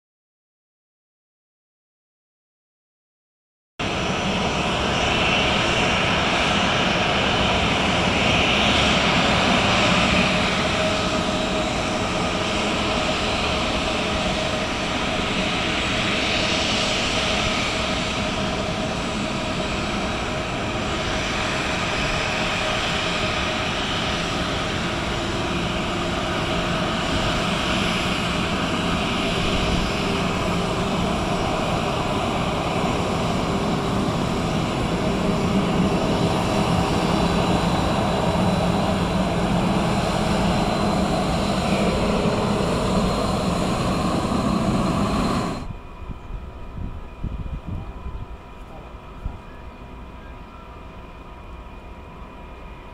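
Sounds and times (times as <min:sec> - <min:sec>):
jet engines whining at taxi: 0:03.8 - 0:52.9.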